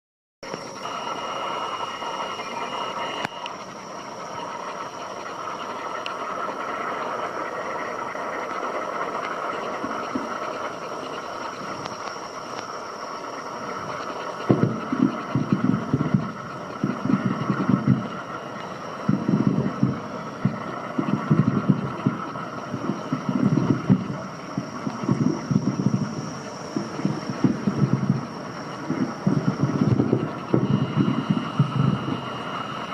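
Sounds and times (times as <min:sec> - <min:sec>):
fireworks noise: 0:00.4 - 0:32.9
fireworks booming overhead: 0:02.4 - 0:32.9.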